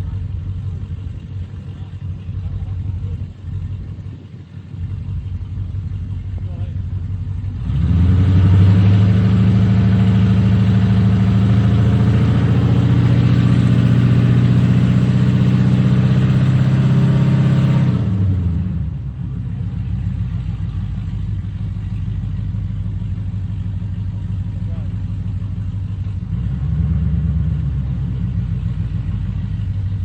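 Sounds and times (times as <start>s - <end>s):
drag car engine revving: 0.0s - 30.0s.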